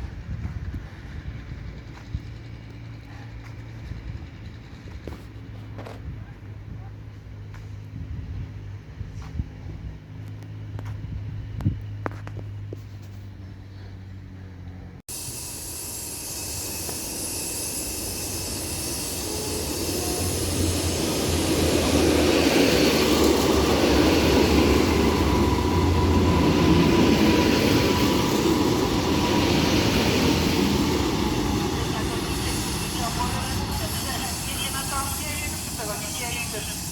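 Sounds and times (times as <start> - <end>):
passenger train running by: 0.0 - 12.7, 13.6 - 36.9.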